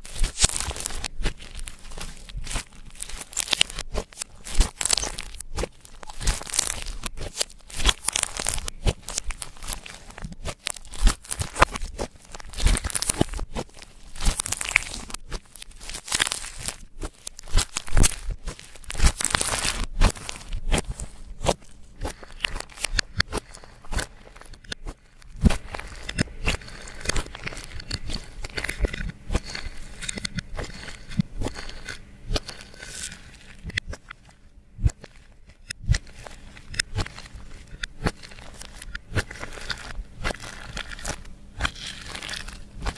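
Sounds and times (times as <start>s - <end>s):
slime squishing by hand: 0.0s - 42.9s
sticky clicks and crackling pops: 0.0s - 42.9s.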